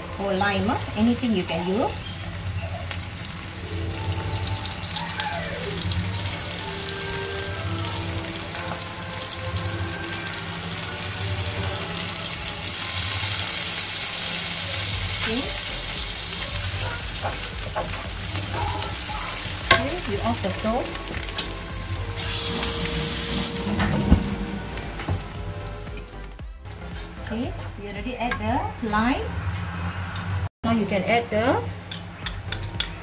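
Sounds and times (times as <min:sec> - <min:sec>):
chili paste sizzling in oil: 0:00.0 - 0:27.2.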